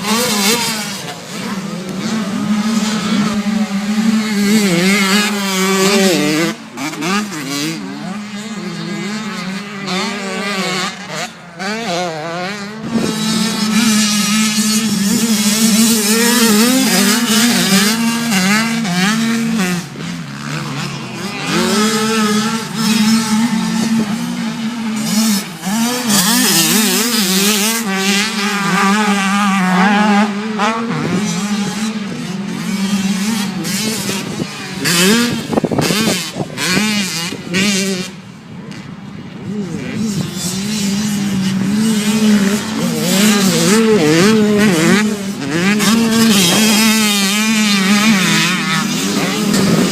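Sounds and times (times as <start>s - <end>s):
vehicle engine revving: 0.0s - 49.9s.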